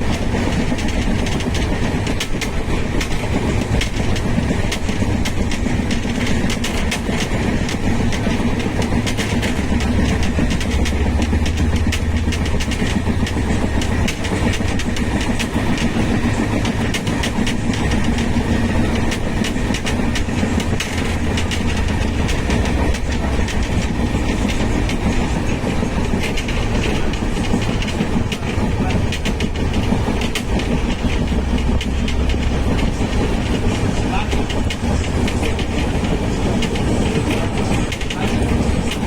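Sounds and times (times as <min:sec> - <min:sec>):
train wheels clattering on rails: 0:00.0 - 0:39.0.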